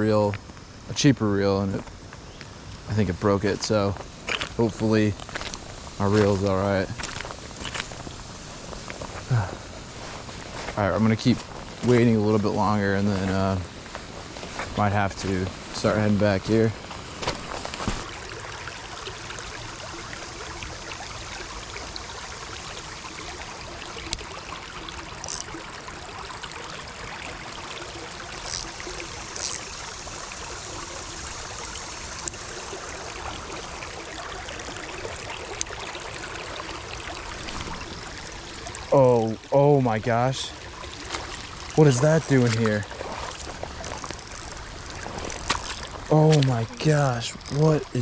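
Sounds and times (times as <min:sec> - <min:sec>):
creek water running over rocks: 0:00.0 - 0:48.0.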